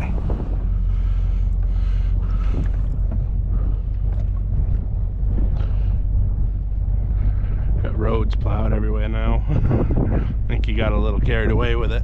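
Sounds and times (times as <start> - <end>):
vehicle engine rumbling: 0.0 - 12.0
wind buffeting microphone: 0.0 - 12.0.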